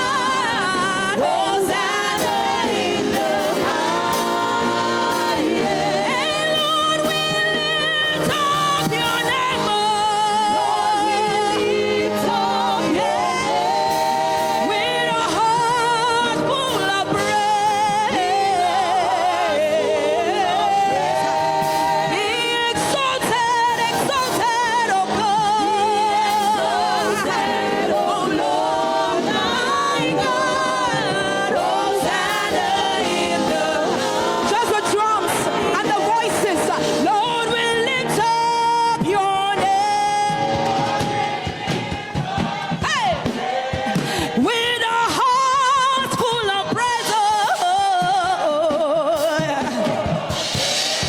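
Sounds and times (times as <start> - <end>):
person singing with vibrato: 0.0 - 41.5
held accompaniment: 0.0 - 44.5.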